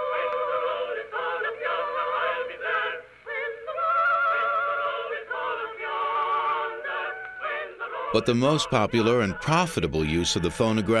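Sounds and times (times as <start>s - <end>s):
voices singing together: 0.0s - 11.0s.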